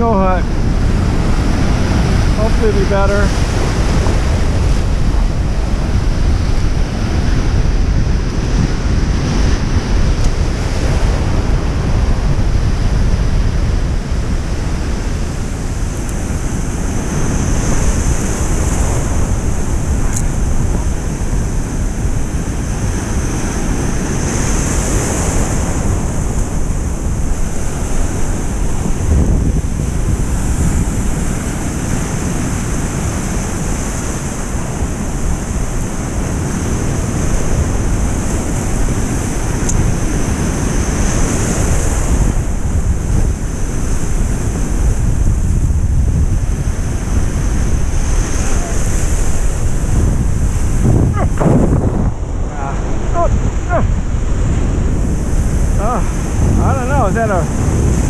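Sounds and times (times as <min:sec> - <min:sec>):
surf breaking: 0:00.0 - 0:58.0
wind buffeting microphone: 0:00.0 - 0:58.0.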